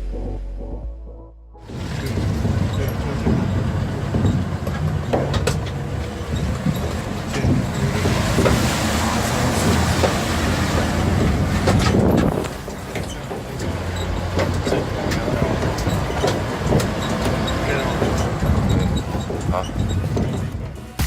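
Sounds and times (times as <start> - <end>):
vehicle engine and road rumble: 0.0 - 21.0
knocks and rattles: 1.7 - 8.7, 9.6 - 20.8.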